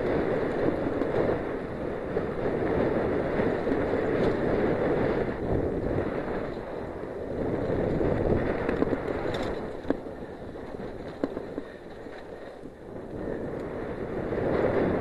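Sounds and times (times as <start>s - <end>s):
bike tyres rolling over dirt: 0.0s - 15.0s
wind on microphone: 0.0s - 15.0s.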